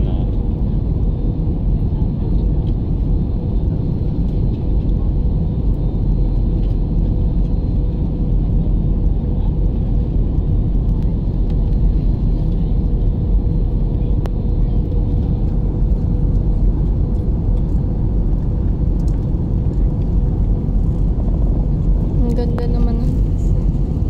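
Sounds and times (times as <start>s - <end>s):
jet cabin low rumble: 0.0s - 24.0s.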